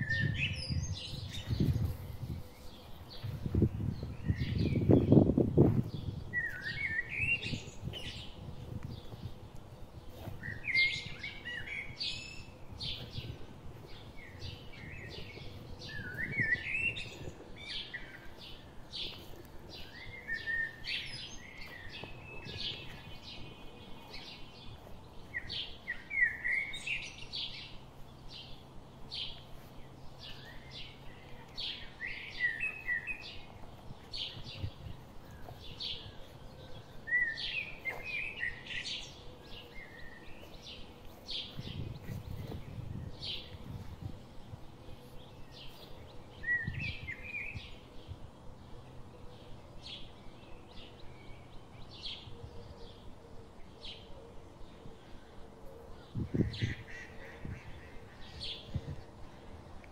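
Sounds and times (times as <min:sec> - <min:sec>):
bird song phrase: 0:06.0 - 0:59.9.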